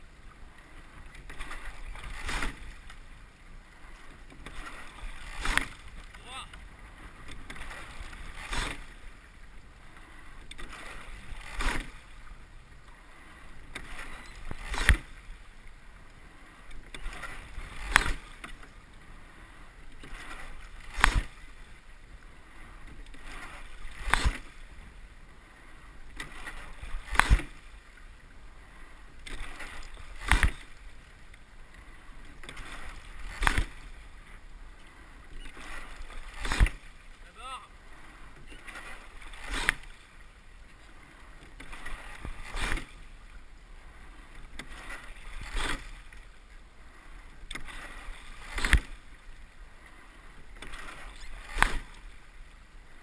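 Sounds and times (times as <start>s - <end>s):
water washing along hull: 0.0s - 53.0s
oars clacking in oarlocks: 0.2s - 53.0s.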